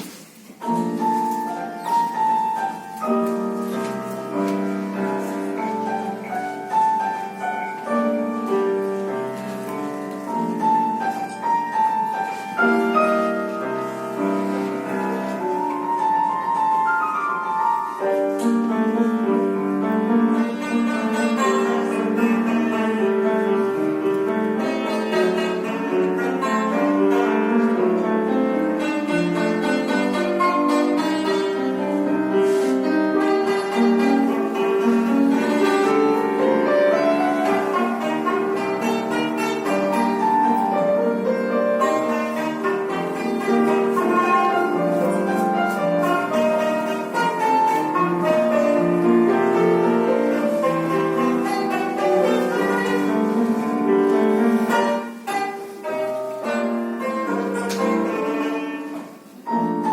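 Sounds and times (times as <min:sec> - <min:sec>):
piano accompaniment: 0:00.0 - 0:59.9
stringed lute melody: 0:00.0 - 0:59.9.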